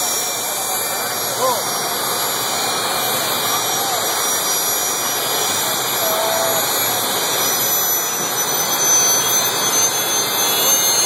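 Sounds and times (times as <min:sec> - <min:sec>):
jet engine running: 0:00.0 - 0:11.0.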